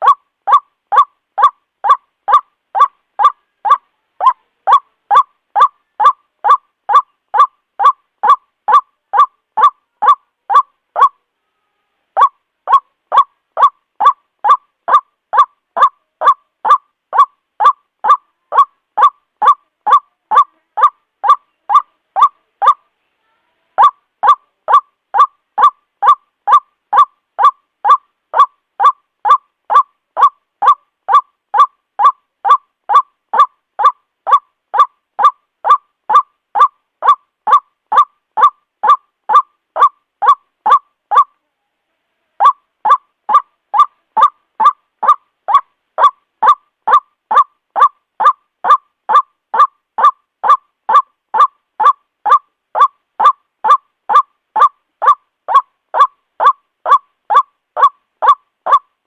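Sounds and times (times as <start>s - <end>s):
bird calling harsh notes: 0.0s - 11.2s, 12.2s - 22.8s, 23.8s - 41.3s, 42.4s - 58.9s.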